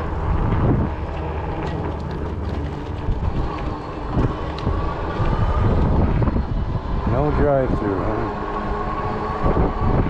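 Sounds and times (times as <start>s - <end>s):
low rumble of e-bike: 0.0s - 10.0s
wind buffeting microphone: 0.0s - 10.0s.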